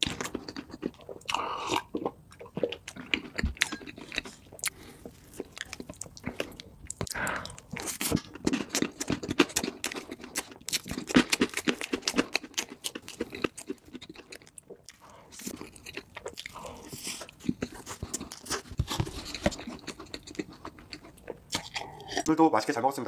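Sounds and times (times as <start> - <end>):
close chewing of cake: 0.0 - 22.5.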